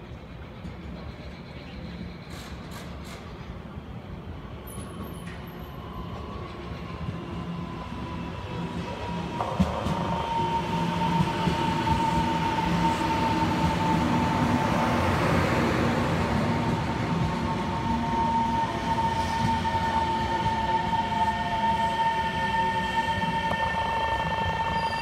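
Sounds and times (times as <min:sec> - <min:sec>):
train high whine: 0:00.0 - 0:25.0
train wheels rumbling on rails: 0:00.0 - 0:25.0.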